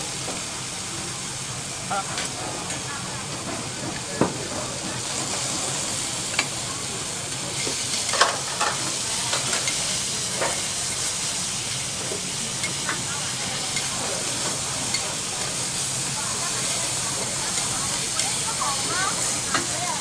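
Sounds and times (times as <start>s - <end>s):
vegetables sizzling on a griddle: 0.0s - 20.0s.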